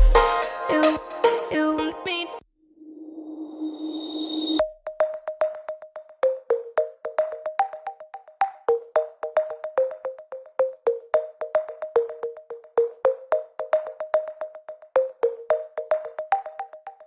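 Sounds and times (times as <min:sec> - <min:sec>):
plucked synth electronic music: 0:00.0 - 0:02.1, 0:04.6 - 0:17.0.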